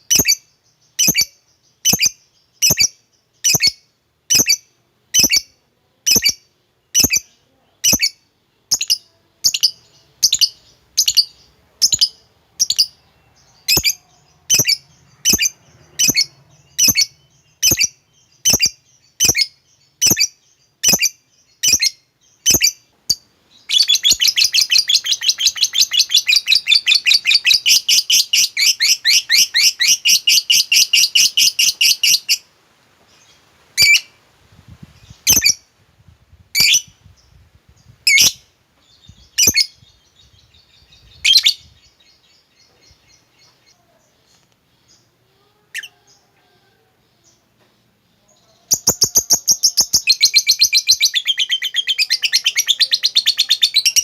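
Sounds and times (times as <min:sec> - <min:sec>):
bird high chirps: 0:00.0 - 0:32.5, 0:33.1 - 0:35.7, 0:36.5 - 0:54.0.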